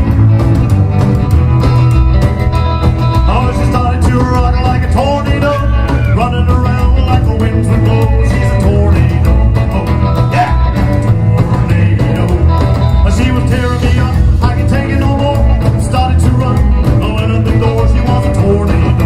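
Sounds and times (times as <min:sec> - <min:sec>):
rock and roll band playing: 0:00.0 - 0:19.0
steady drum beat: 0:00.0 - 0:19.0.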